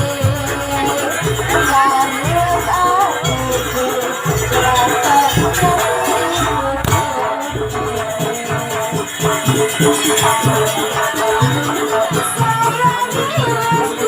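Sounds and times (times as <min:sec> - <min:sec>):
jingling percussion: 0:00.0 - 0:14.0
repeated drum strokes: 0:00.0 - 0:14.0.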